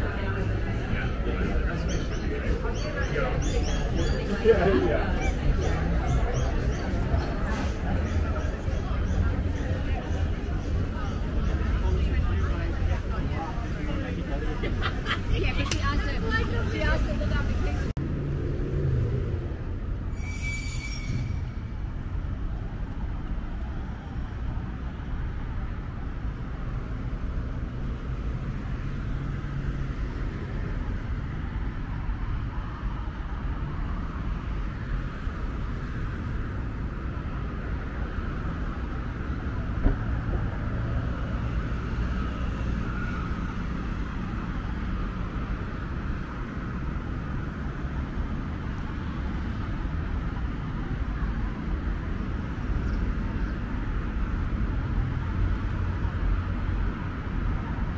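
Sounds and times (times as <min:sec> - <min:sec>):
road traffic passing: 0:00.0 - 0:57.9.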